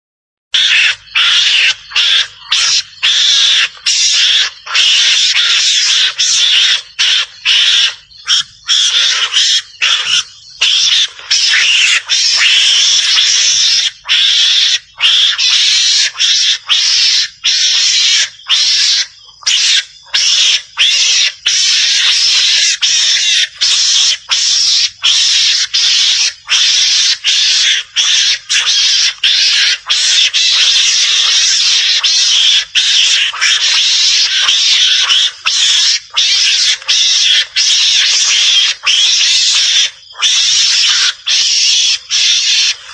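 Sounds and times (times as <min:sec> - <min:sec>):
mongoose raspy chattering: 0:00.5 - 0:42.9.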